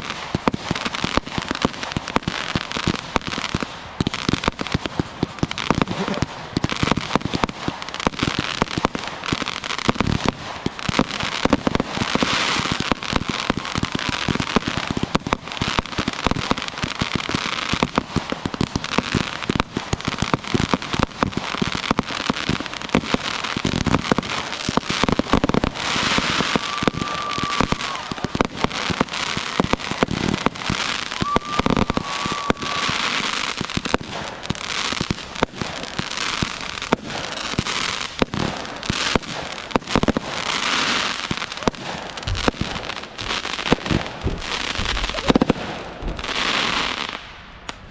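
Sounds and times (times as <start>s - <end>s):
fireworks cracking and banging: 0.0s - 47.9s.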